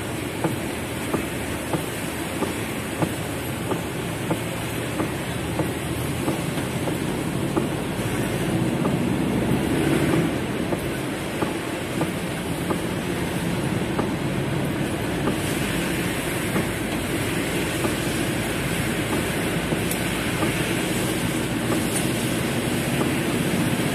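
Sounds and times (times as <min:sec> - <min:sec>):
heavy rain on car roof: 0:00.0 - 0:23.9.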